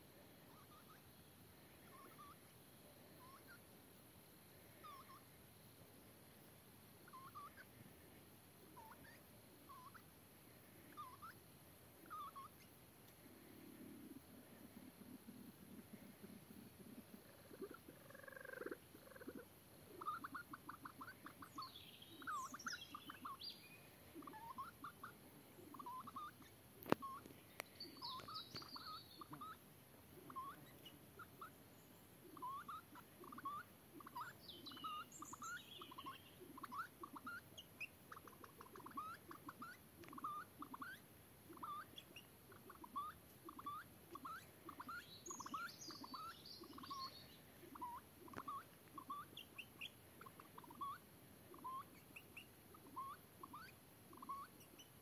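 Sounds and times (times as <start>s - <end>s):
pheasant chirping: 0.4s - 2.5s, 3.1s - 3.7s, 4.8s - 5.3s, 7.0s - 10.1s, 10.7s - 11.4s, 12.0s - 12.8s, 13.6s - 55.0s.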